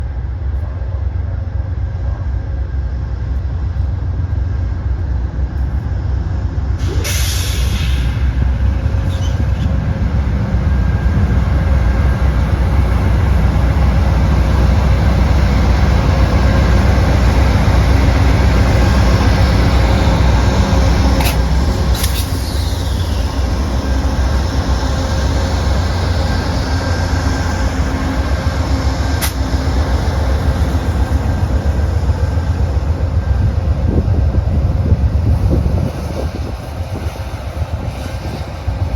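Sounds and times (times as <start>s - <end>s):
diesel locomotive rumbling: 0.0s - 38.9s.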